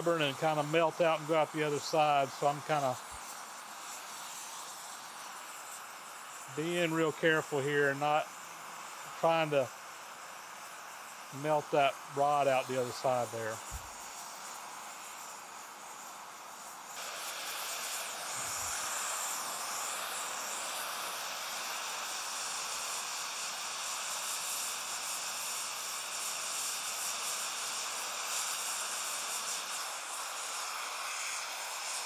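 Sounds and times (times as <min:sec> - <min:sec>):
torch hissing: 0:00.0 - 0:32.0.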